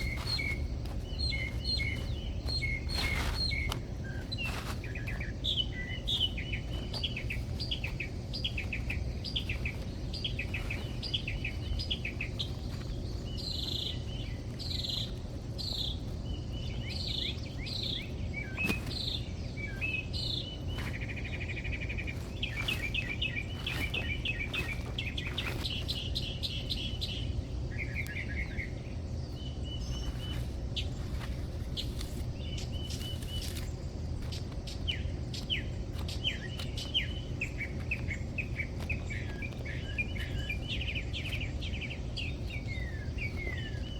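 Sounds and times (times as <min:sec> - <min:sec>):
low background hum: 0:00.0 - 0:43.9
songbirds chirping and trilling: 0:00.0 - 0:43.9.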